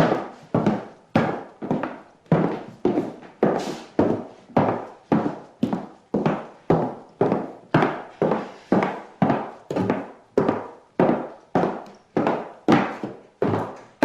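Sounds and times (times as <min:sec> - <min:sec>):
footsteps on wooden floor: 0:00.0 - 0:14.0.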